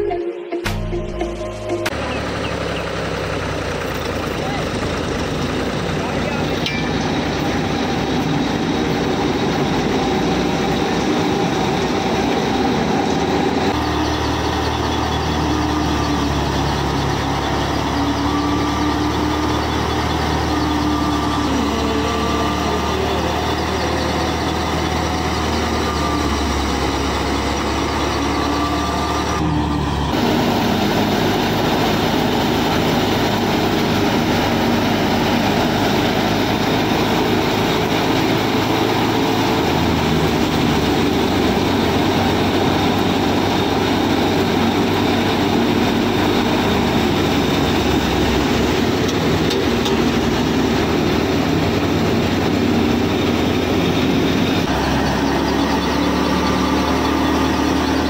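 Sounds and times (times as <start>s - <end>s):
thresher mechanical whir: 1.8s - 58.0s.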